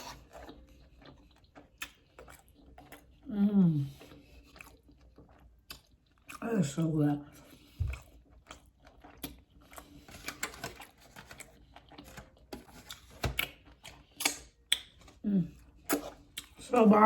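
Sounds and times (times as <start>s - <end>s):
close chewing with lip smacks: 0.0s - 17.0s.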